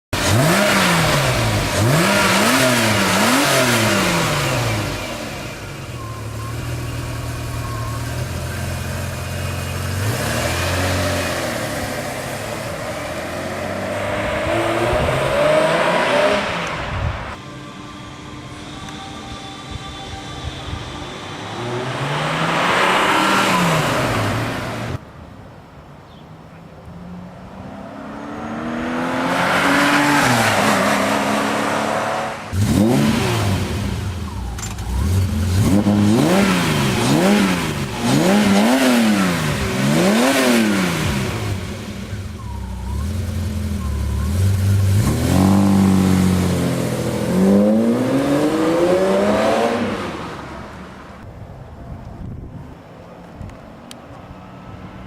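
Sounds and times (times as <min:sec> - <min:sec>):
car engine revving: 0:00.1 - 0:19.0, 0:19.9 - 0:25.0, 0:27.0 - 0:51.2.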